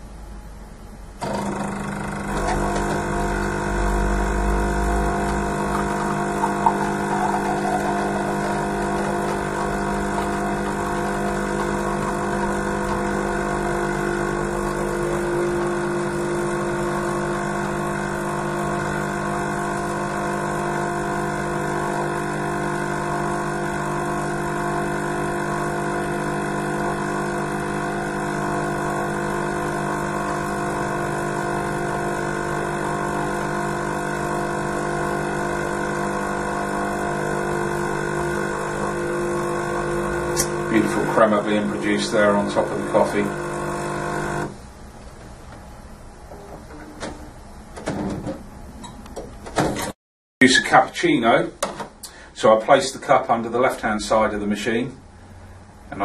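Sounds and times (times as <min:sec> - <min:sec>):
coffee machine humming: 0:00.0 - 0:49.4, 0:51.9 - 0:56.0.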